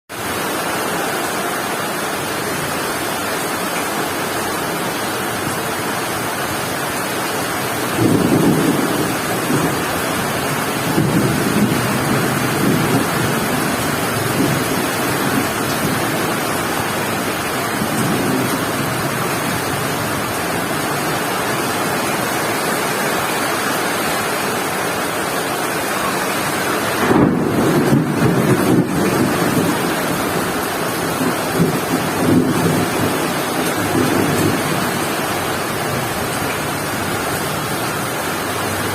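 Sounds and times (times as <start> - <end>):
heavy rain pouring: 0.1 - 38.9
strong wind: 4.7 - 38.9.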